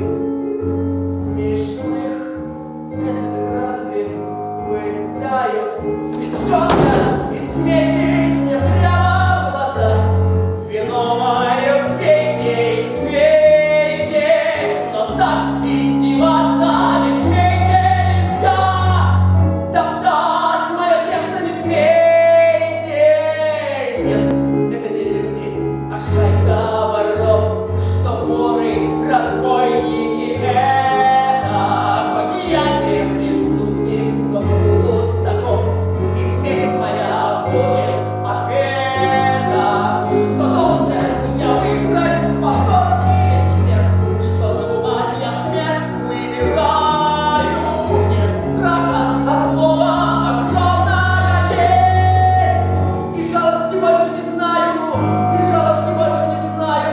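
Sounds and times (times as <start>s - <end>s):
instrumental accompaniment with bass: 0.0s - 56.9s
people singing: 1.5s - 56.9s.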